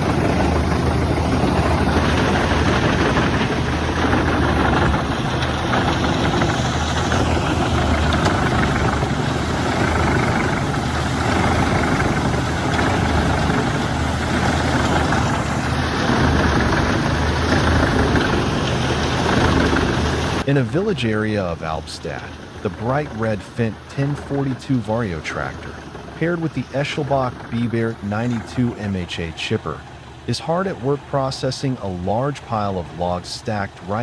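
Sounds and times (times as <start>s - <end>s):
wood chipper engine running: 0.0s - 34.0s.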